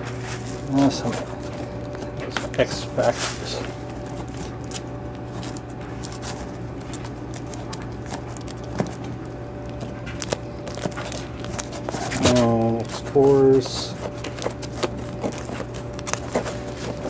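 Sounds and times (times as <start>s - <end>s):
plastic rustling: 0.0s - 17.0s
steady low hum: 0.0s - 17.0s.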